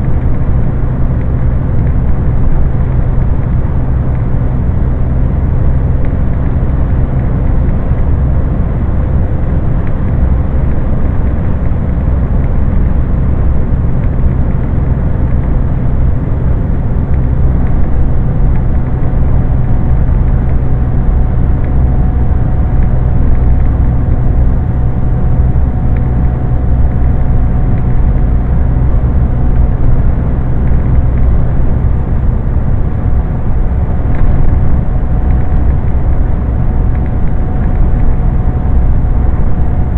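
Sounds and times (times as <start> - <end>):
diesel truck engine running: 0.0 - 39.9
road and tyre noise: 0.0 - 39.9.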